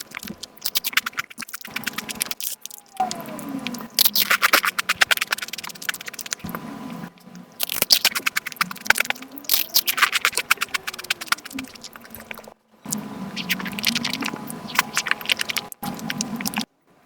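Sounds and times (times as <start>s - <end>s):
sped-up chewing clicks: 0.0s - 16.7s.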